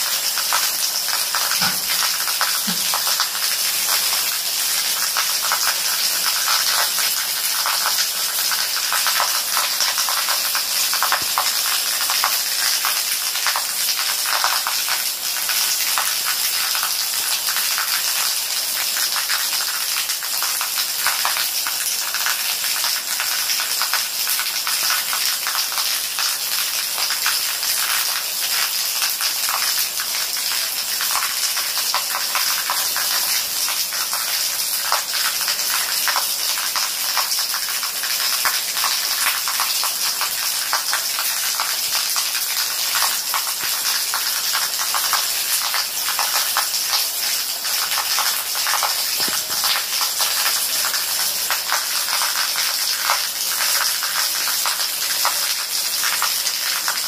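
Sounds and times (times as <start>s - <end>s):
rain falling on leaves: 0.0s - 57.0s.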